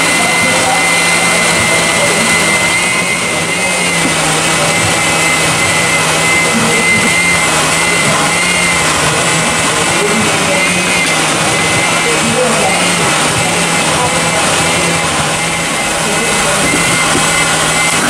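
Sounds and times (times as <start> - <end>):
blender motor whining: 0.0 - 18.0.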